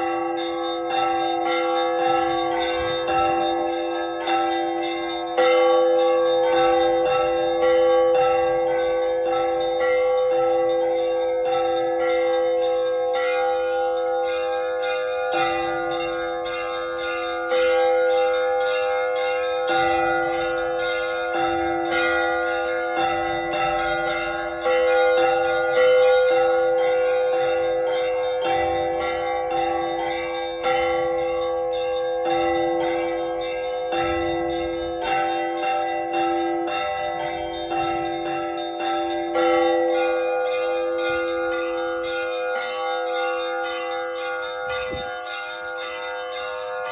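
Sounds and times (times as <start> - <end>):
large church bells ringing: 0.0 - 46.9
small church bells ringing: 0.0 - 46.9.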